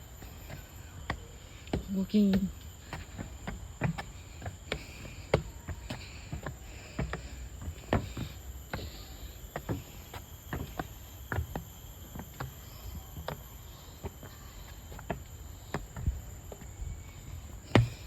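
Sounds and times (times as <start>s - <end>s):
footsteps on forest trail: 0.0s - 18.0s
high-pitched insect drone: 0.0s - 18.0s.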